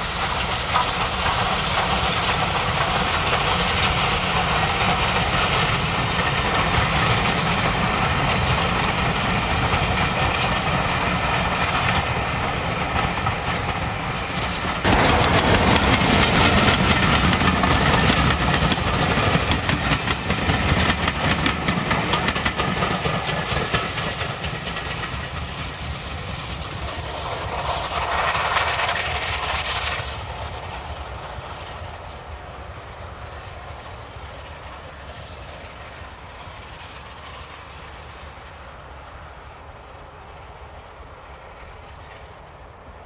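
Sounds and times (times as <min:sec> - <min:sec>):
train clattering over track: 0:00.0 - 0:43.0.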